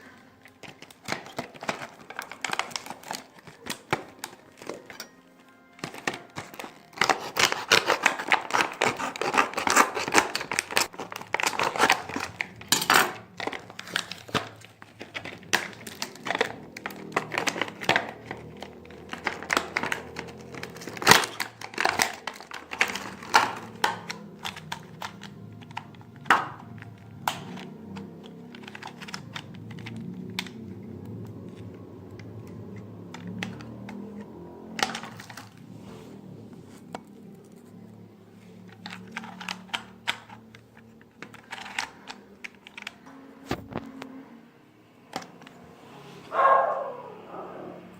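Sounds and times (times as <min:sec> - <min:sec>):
packaging tearing and crinkling: 0:00.3 - 0:05.0, 0:05.6 - 0:35.7, 0:38.7 - 0:44.0.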